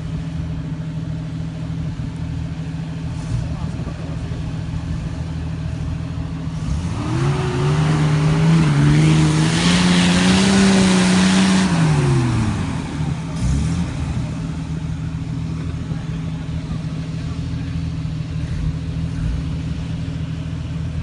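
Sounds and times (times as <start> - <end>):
off-road vehicle engine revving: 2.9 - 21.0.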